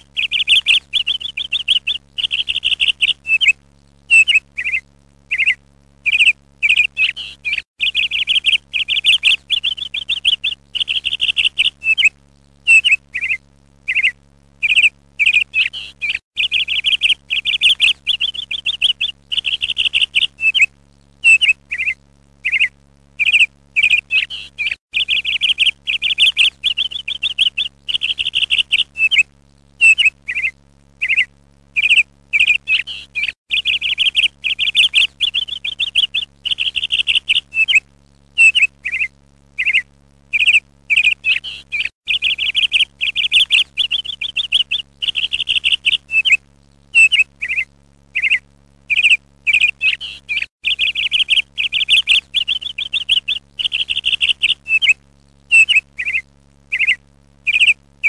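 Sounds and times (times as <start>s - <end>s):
songbird chirping and trilling: 0.0s - 37.8s, 38.4s - 57.8s
faint low hum: 0.0s - 58.0s.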